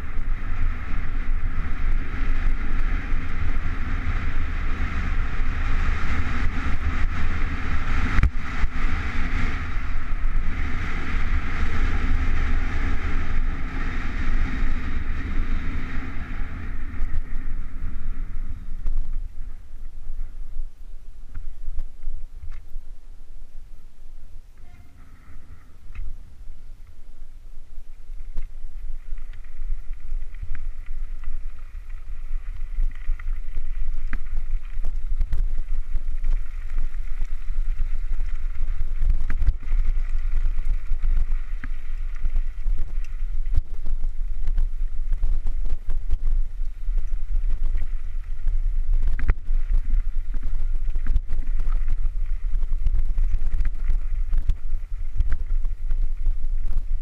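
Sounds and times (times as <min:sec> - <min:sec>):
bike rattling over bumps: 0:00.0 - 0:20.8, 0:28.0 - 0:57.0
wind buffeting microphone: 0:00.0 - 0:22.8, 0:27.6 - 0:57.0.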